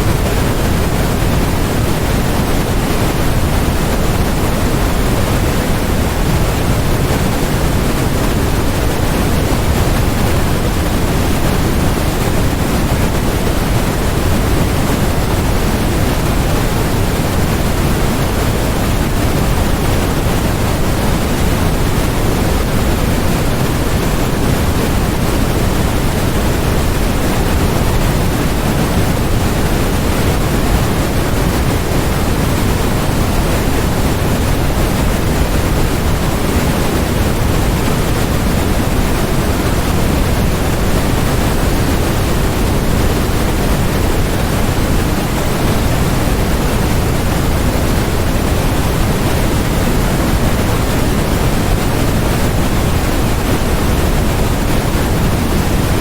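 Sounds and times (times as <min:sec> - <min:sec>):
electronic white noise hiss: 0:00.0 - 0:56.0.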